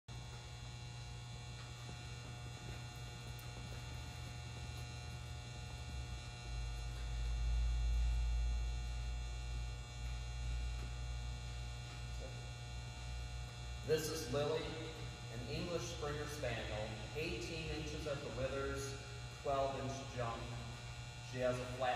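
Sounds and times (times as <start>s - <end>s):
faint steady tones: 0.1s - 21.9s
low electrical hum: 0.1s - 21.9s.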